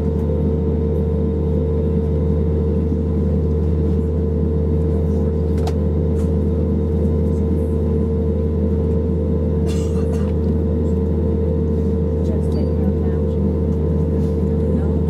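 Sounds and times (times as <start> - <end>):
aircraft engine and airflow drone: 0.0 - 15.0.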